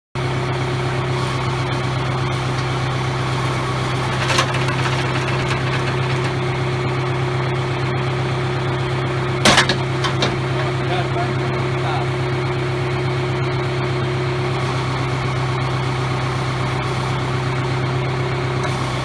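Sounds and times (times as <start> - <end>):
tractor engine idling: 0.2 - 19.0.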